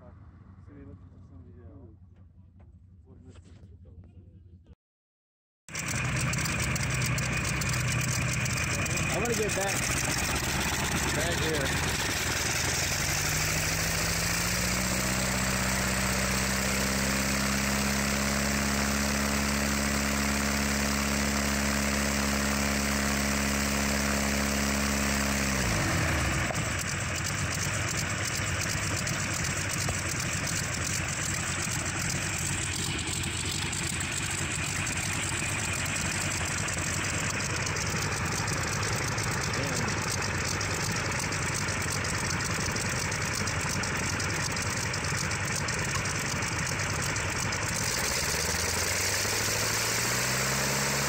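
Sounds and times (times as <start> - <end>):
radial aero engine running: 5.7 - 51.0.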